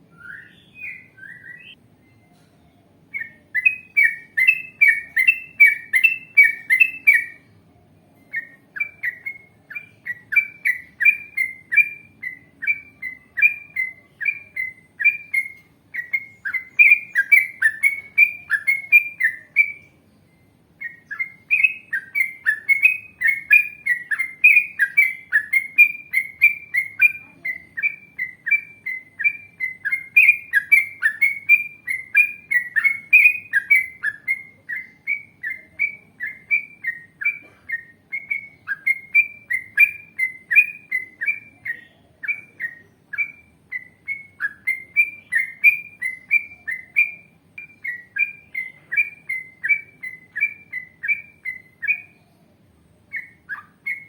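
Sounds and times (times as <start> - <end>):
bird chirping rapidly: 0.0 - 7.6, 8.3 - 54.0.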